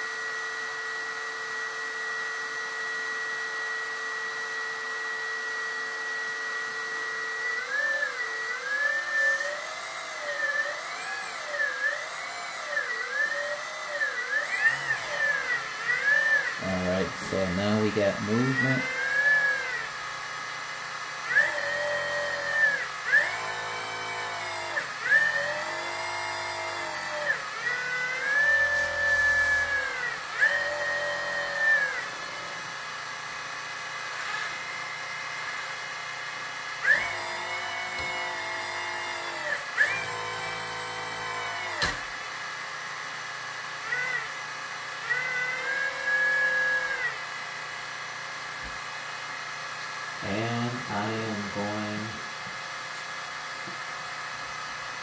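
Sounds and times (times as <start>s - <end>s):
hydraulic pump whining: 0.0s - 55.0s.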